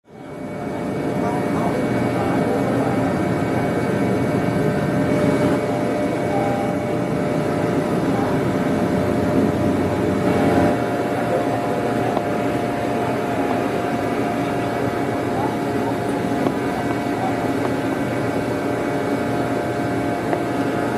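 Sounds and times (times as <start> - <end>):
engine drone: 0.0 - 20.9
faint whine: 0.1 - 20.9.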